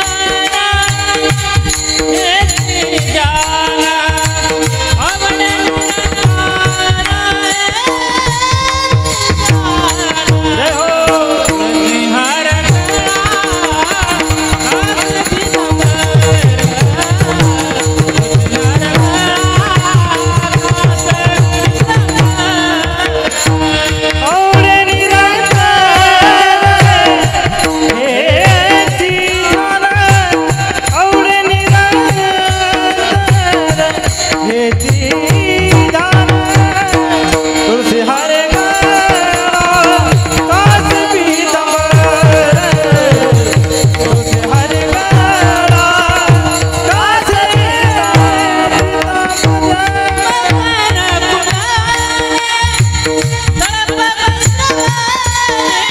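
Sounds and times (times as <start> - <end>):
harmonium held notes: 0.0 - 55.9
person singing: 0.0 - 55.9.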